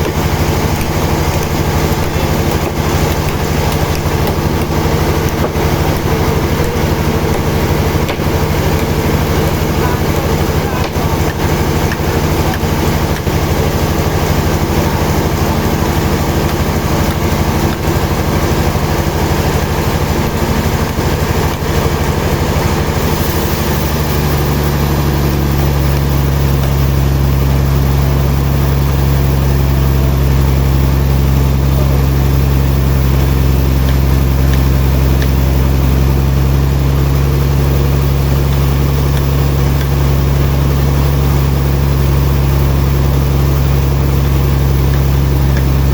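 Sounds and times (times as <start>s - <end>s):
heavy machinery engine humming: 0.0s - 45.9s.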